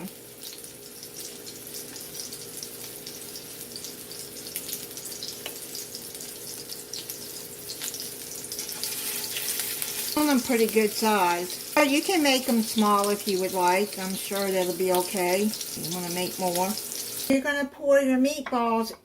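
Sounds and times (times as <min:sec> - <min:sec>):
meatballs sizzling in oil: 0:00.0 - 0:17.4.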